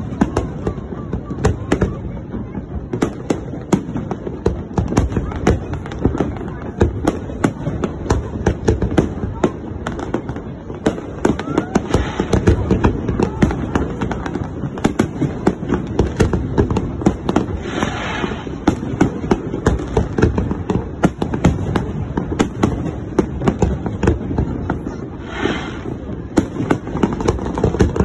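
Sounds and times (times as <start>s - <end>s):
fireworks hissing rushes: 4.4s - 28.0s.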